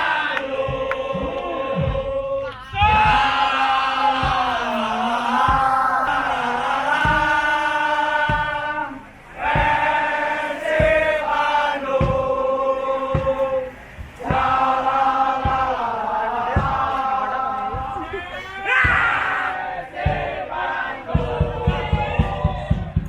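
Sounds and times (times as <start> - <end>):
crowd singing a chant: 0.0 - 23.0
low thumps: 0.3 - 23.0.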